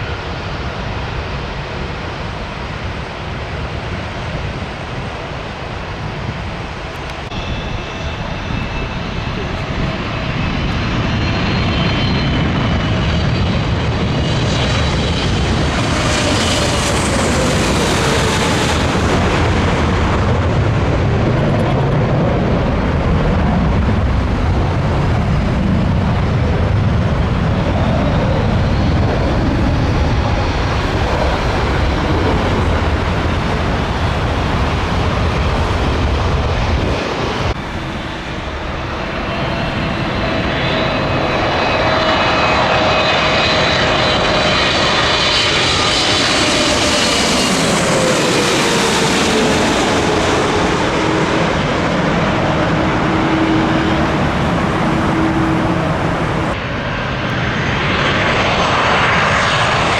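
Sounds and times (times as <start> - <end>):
jet airliner passing overhead: 0.0 - 59.9
jet engine whine: 0.0 - 59.9.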